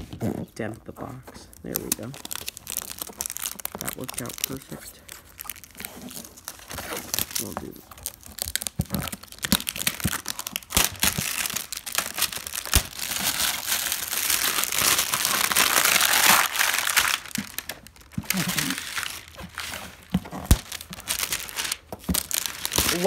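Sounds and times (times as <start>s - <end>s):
plastic shrink-wrap crinkling: 0.0s - 23.0s.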